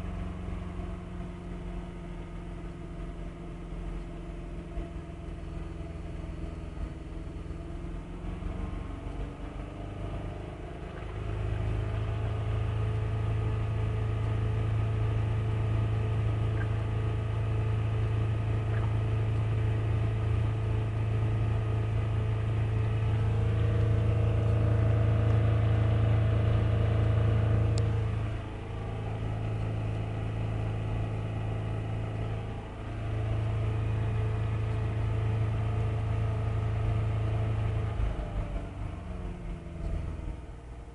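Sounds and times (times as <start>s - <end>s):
car engine revving: 2.4s - 40.9s.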